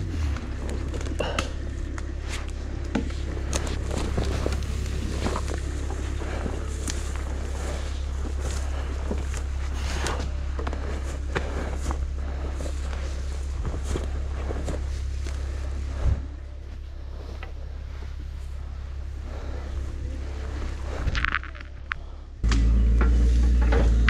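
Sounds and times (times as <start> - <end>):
footsteps rustling through grass: 0.0 - 21.6
steady low hum: 0.0 - 24.0.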